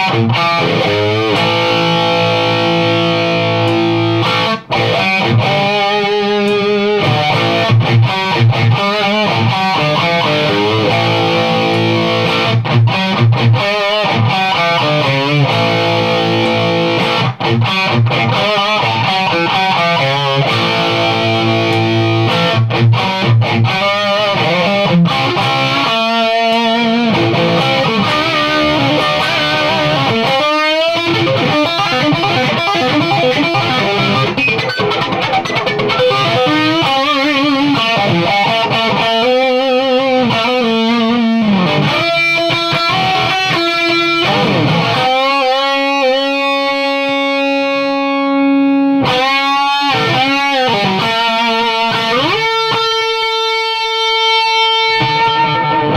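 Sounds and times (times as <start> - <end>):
distorted electric guitar lead: 0.0 - 55.9.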